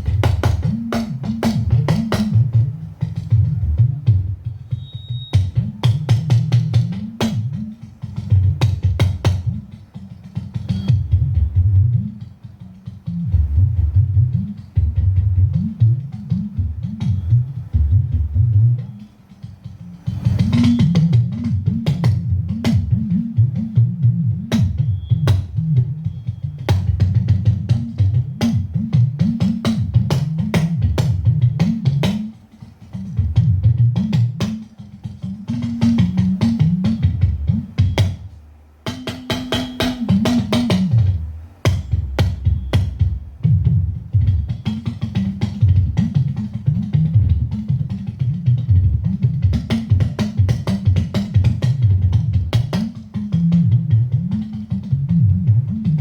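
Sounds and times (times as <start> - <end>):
talking drum strokes: 0.0 - 56.0.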